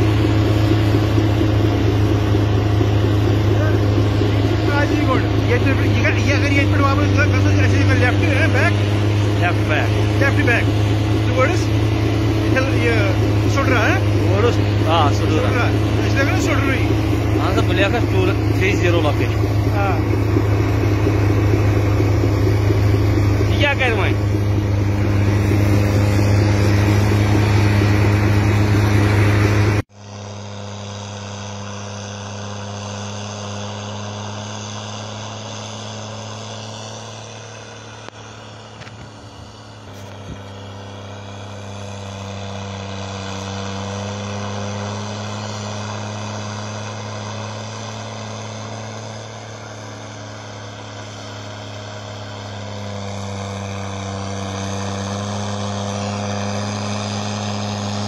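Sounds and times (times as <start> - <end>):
snow blower engine running: 0.0 - 58.0.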